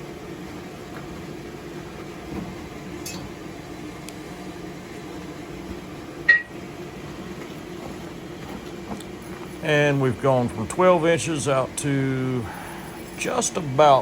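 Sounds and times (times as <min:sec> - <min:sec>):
forge mechanical hum: 0:00.0 - 0:14.0.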